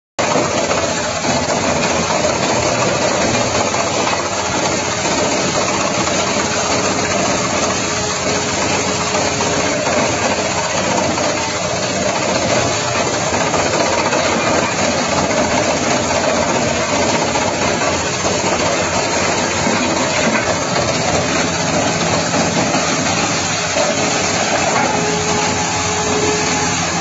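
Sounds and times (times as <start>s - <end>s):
wood chipper engine running: 0.2s - 27.0s.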